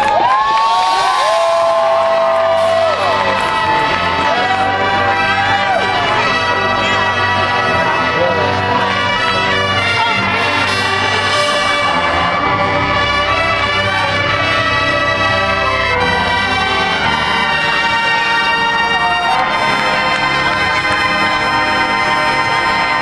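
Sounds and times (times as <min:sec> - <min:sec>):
brass section chords: 0:00.2 - 0:23.0
marching band playing: 0:00.2 - 0:23.0.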